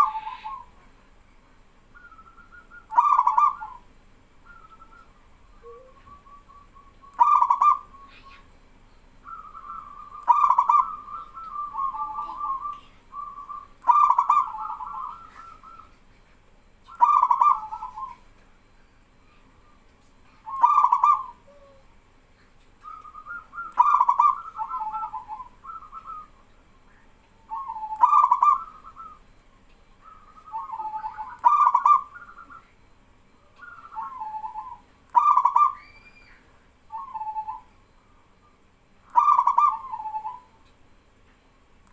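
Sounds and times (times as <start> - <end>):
dove cooing: 0.0 - 0.9, 2.0 - 29.4, 30.0 - 40.6.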